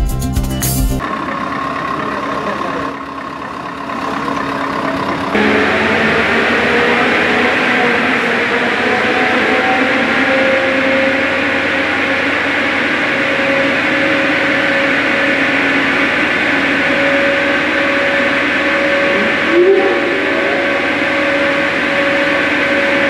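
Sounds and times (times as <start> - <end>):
truck diesel engine running: 0.0 - 23.0
steady whine: 1.0 - 23.0.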